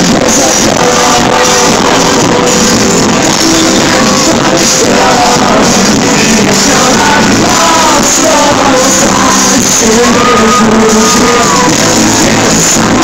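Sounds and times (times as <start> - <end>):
live pop-rock band playing: 0.0 - 13.0
person singing: 0.0 - 13.0.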